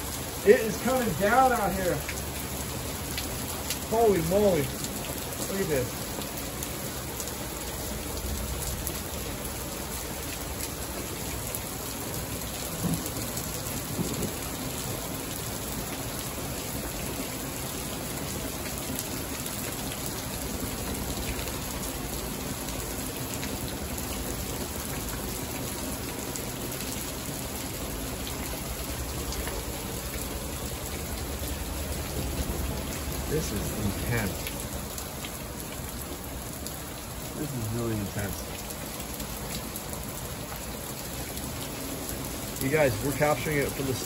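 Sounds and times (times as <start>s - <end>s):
heavy rain pouring: 0.0s - 44.0s.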